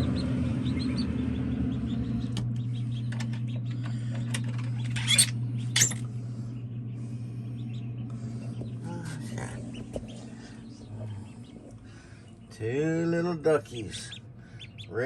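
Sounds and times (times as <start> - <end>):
ducklings peeping: 0.0 - 15.0
steady low hum: 0.0 - 15.0.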